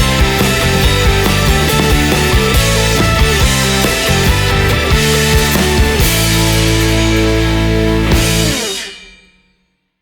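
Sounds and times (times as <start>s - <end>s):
rock music: 0.0s - 9.5s.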